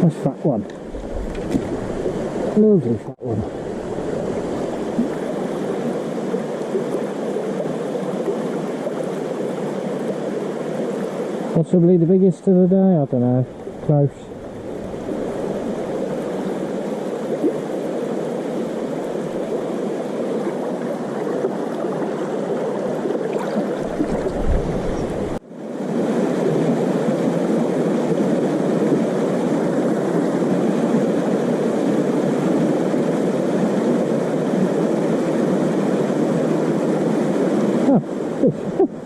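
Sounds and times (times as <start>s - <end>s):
river water rushing over stones: 0.5s - 11.6s, 12.5s - 39.0s.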